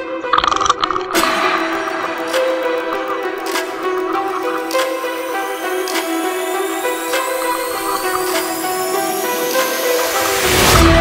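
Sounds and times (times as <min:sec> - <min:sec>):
background music with held notes: 0:00.0 - 0:11.0
sharp hits: 0:00.4 - 0:11.0.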